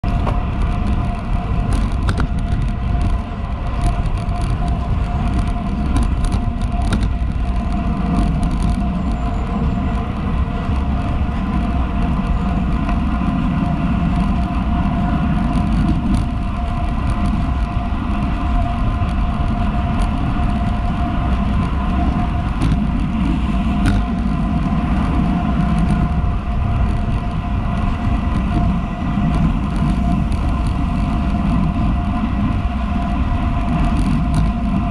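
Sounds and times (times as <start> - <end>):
bicycle road noise: 0.0 - 34.9
wind buffeting microphone: 0.0 - 34.9.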